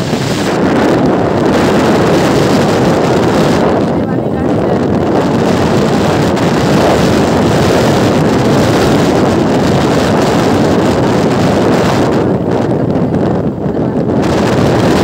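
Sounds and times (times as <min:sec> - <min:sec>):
motorcycle engine: 0:00.0 - 0:15.0
road noise: 0:00.0 - 0:15.0
wind on microphone: 0:00.0 - 0:15.0.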